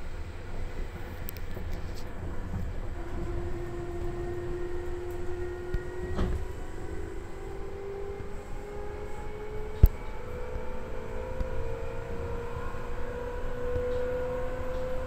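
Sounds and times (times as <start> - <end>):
train wheels rumbling on rail: 0.0 - 15.0
train motor tone rising: 2.9 - 15.0.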